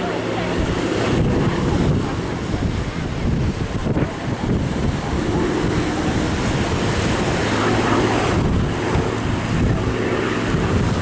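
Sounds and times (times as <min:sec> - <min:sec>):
radial aircraft engine droning: 0:00.0 - 0:11.0
wind buffeting microphone: 0:00.0 - 0:11.0.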